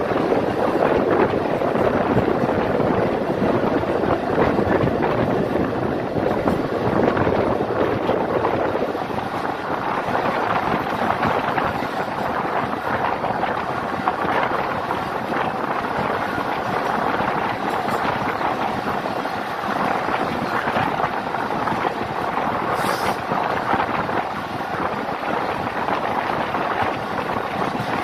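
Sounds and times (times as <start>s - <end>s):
train coach running noise: 0.0s - 28.0s
wind on microphone: 0.0s - 28.0s.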